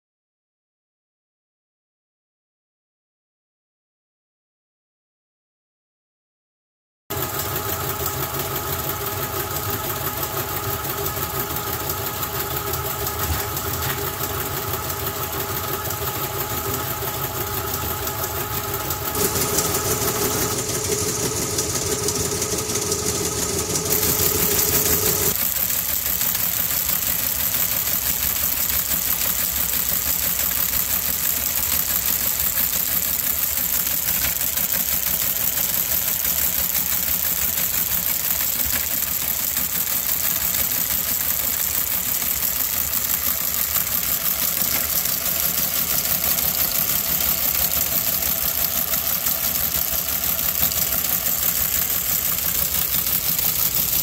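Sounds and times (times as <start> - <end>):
motor hum: 7.1 - 54.0
printer mechanical clatter: 7.1 - 54.0.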